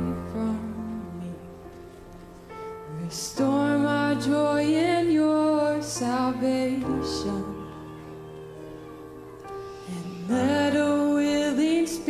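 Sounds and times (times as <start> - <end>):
slow worship song: 0.0 - 12.0.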